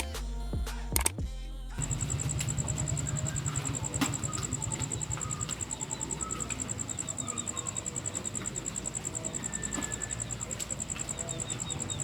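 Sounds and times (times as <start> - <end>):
insect trilling: 1.8 - 12.0.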